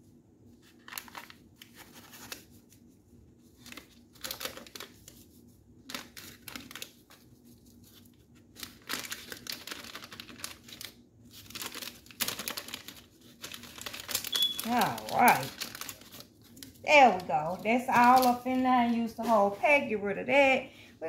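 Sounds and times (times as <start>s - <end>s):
plastic packet crinkling: 0.7s - 2.6s, 3.5s - 19.6s.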